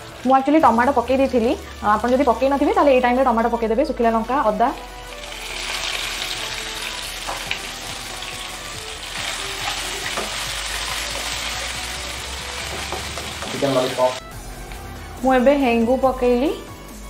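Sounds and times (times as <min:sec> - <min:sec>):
spices sizzling in hot ghee: 0:00.0 - 0:14.9.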